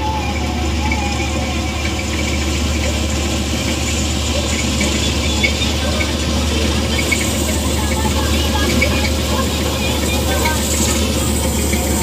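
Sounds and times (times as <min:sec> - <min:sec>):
engine low hum: 0:00.0 - 0:12.0
harvester machinery working: 0:00.0 - 0:12.0.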